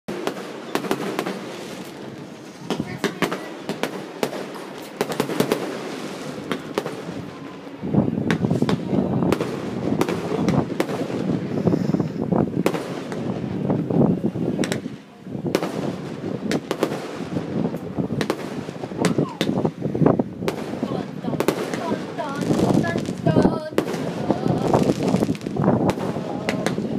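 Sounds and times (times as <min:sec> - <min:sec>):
fireworks popping and crackling: 0:00.1 - 0:07.5, 0:08.2 - 0:26.9.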